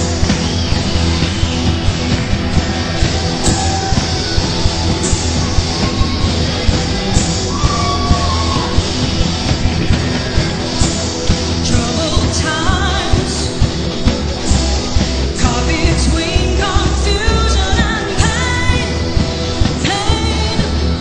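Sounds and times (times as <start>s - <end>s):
drum beat: 0.0s - 20.7s
rock band playing live: 0.0s - 21.0s.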